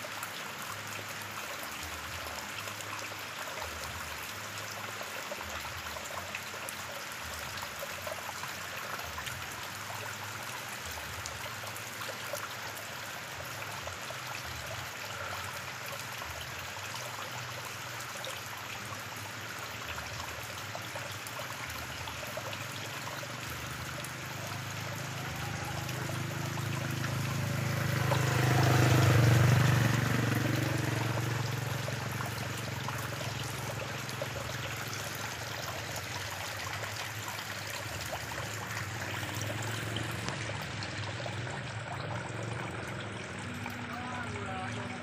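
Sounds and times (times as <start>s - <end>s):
rain falling on water: 0.0s - 45.0s.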